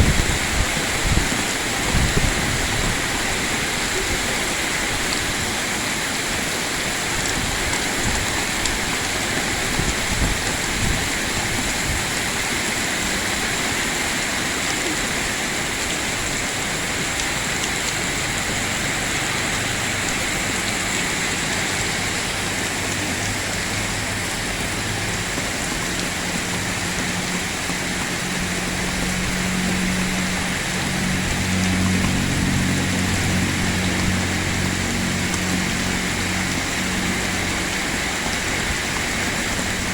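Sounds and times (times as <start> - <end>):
heavy rain pouring: 0.0 - 39.9
low vehicle engine hum: 5.4 - 39.9.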